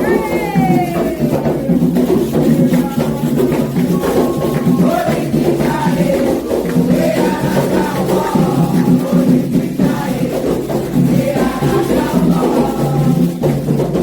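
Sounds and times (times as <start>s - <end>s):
hand percussion: 0.0s - 14.0s
voices singing: 0.0s - 14.0s.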